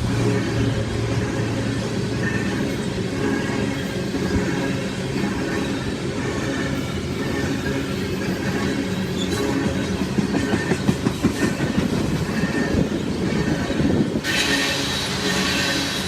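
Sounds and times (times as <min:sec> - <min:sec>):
low train rumble: 0:00.0 - 0:16.0
train wheels clattering over rail joints: 0:00.0 - 0:16.0.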